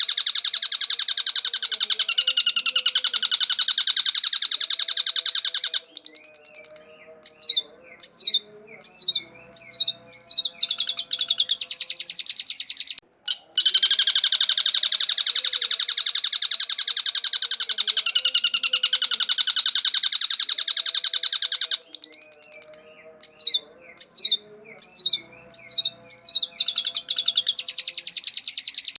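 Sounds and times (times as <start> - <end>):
shrike buzzing chatter: 0.0 - 29.0.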